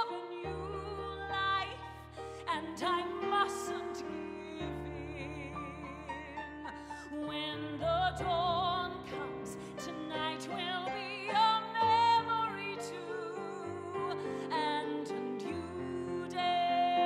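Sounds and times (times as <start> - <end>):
woman singing a slow ballad: 0.0 - 17.0.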